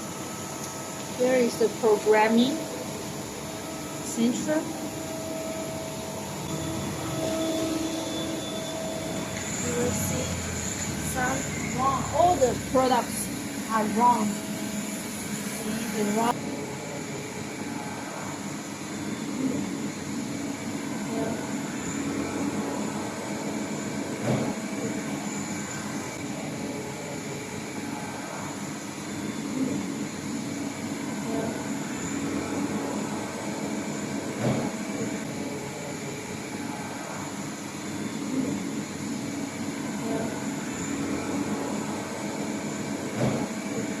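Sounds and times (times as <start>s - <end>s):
machinery humming: 0.0s - 44.0s.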